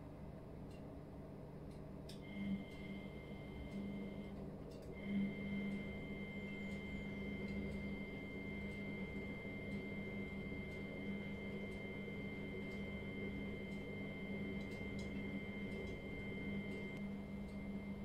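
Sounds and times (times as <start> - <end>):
motor hum: 1.7 - 18.0
faint high whine: 2.2 - 18.0.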